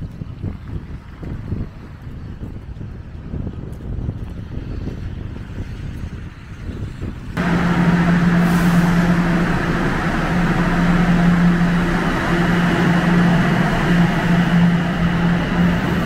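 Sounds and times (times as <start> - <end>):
low wind-like rumble: 0.0 - 16.0.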